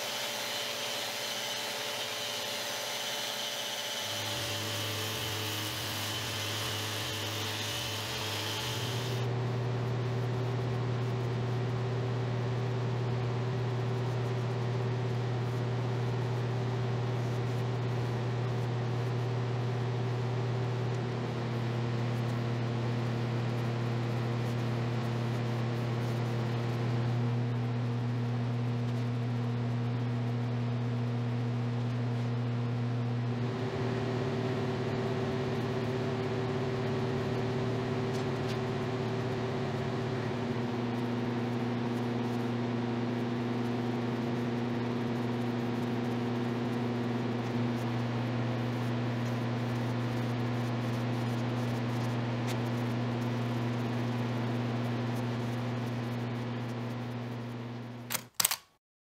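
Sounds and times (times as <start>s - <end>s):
steady motor hum: 0.0s - 58.1s.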